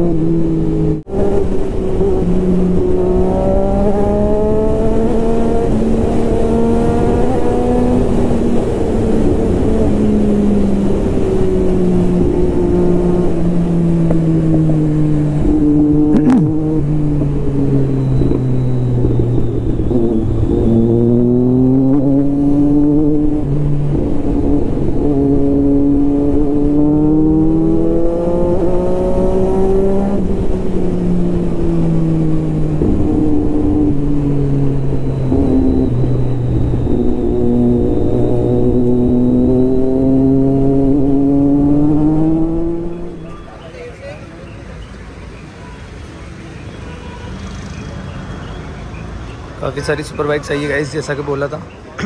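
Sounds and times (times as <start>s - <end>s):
motorcycle engine revving: 0.0s - 43.5s.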